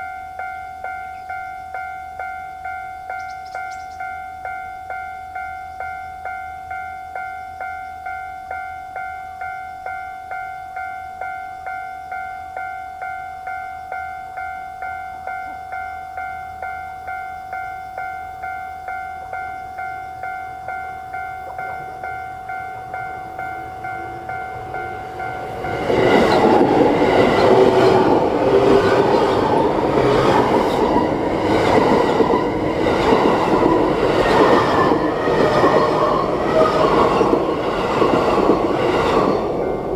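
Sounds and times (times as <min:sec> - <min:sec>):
level-crossing warning bell: 0:00.0 - 0:39.9
train wheel and rail noise: 0:00.0 - 0:39.9.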